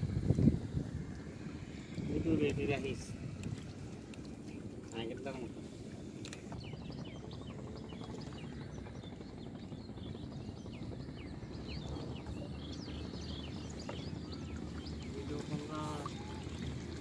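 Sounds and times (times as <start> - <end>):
low outdoor background noise: 0.0 - 17.0
small birds chirping: 0.4 - 17.0.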